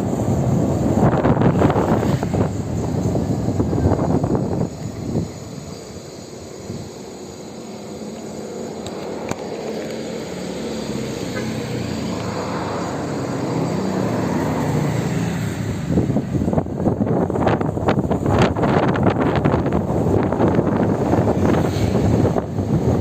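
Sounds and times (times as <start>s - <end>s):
vehicle humming and rushing: 0.0s - 23.0s.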